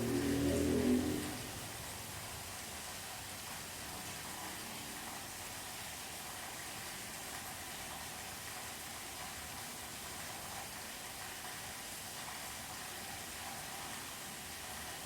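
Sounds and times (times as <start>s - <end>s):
steady rain heard indoors: 0.0s - 15.0s.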